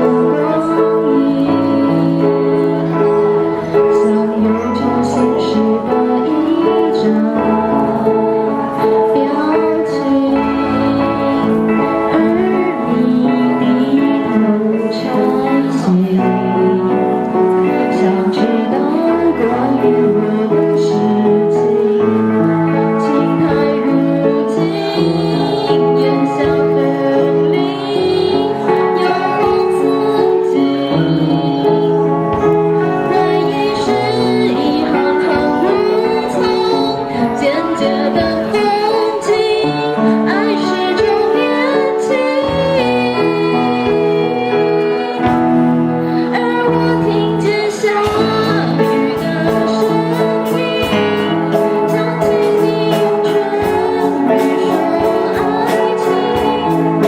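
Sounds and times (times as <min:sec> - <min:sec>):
keyboard accompaniment: 0:00.0 - 0:57.0
slow song with singing voice: 0:00.0 - 0:57.0.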